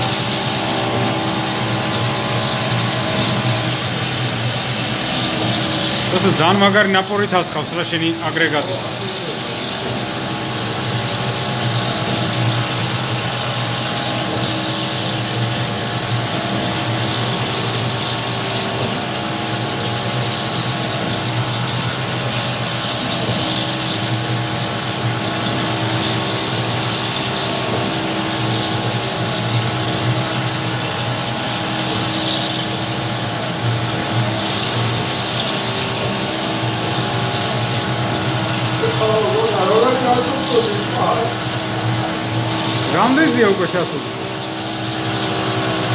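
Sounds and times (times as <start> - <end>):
milling machine spindle running: 0.0 - 45.9.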